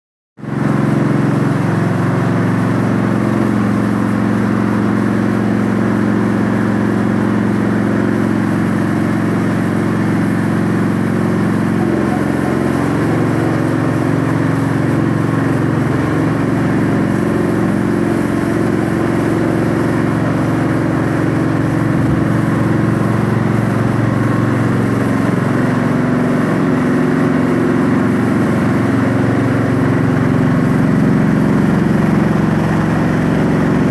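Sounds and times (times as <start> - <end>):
cleaning machine motor drone: 0.4 - 33.9.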